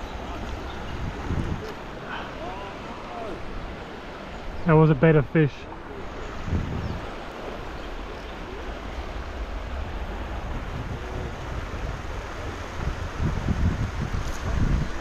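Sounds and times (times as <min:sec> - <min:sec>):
wind buffeting microphone: 0:00.0 - 0:04.7, 0:05.7 - 0:15.0
flowing river water: 0:00.0 - 0:15.0.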